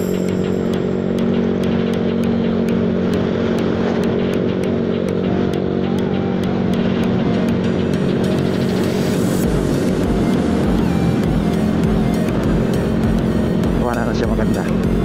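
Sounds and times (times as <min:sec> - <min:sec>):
background music: 0:00.0 - 0:15.0
scooter engine running: 0:00.0 - 0:15.0.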